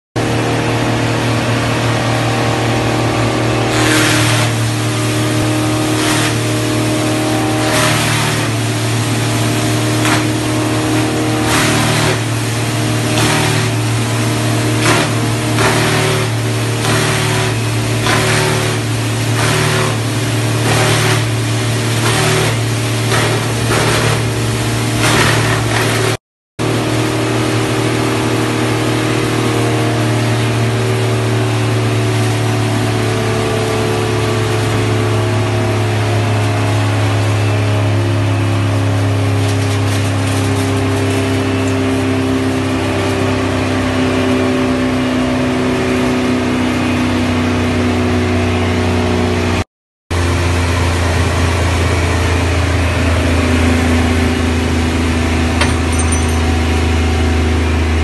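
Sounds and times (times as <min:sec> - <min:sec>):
sawdust machine humming: 0:00.2 - 0:58.0.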